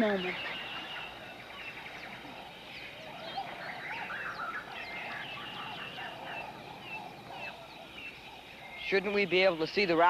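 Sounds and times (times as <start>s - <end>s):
tropical birds chirping: 0.0s - 10.0s.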